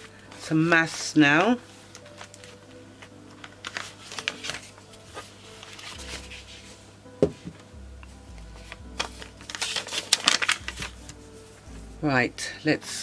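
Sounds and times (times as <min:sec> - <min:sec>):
paper and plastic sleeves rustling: 0:00.0 - 0:06.9, 0:08.2 - 0:12.1
soft background music: 0:00.0 - 0:13.0.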